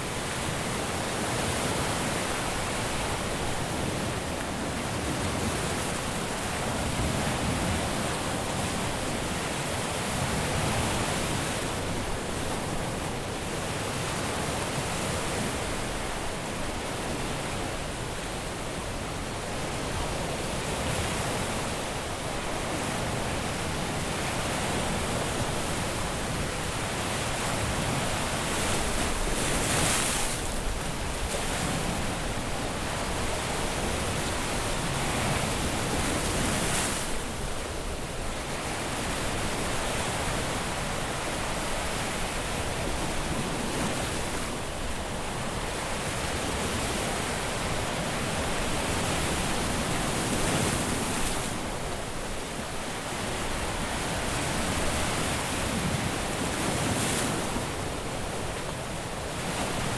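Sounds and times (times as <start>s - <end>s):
ocean surf washing onto beach: 0.0s - 59.9s
waves breaking: 0.0s - 59.9s.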